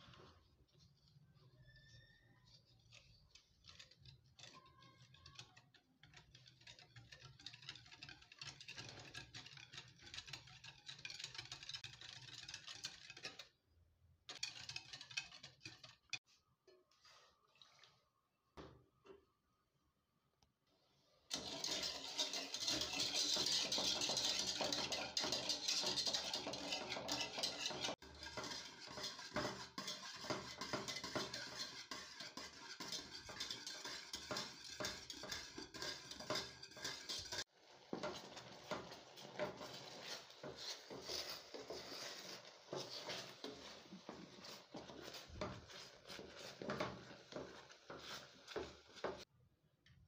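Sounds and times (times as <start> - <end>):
wooden spoon stirring in pot: 0.0 - 19.3, 20.7 - 49.3
metal whisk clinking in pot: 2.9 - 13.6, 14.3 - 16.2, 21.3 - 49.3.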